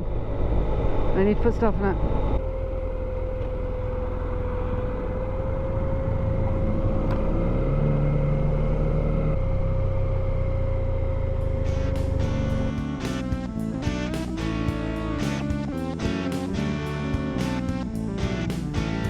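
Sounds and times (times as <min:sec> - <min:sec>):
road and wind noise: 0:00.0 - 0:19.0
steady high whine: 0:00.0 - 0:19.0
motorcycle engine: 0:02.0 - 0:19.0.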